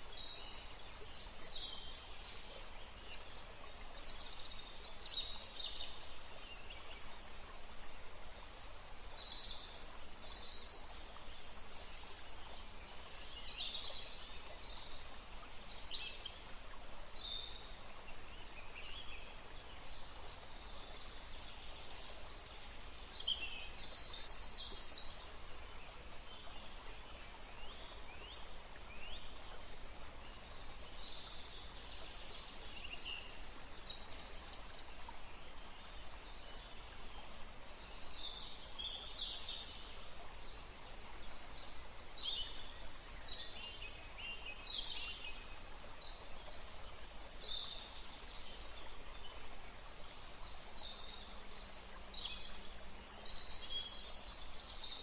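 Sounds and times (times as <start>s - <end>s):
background hiss: 0.0s - 55.0s.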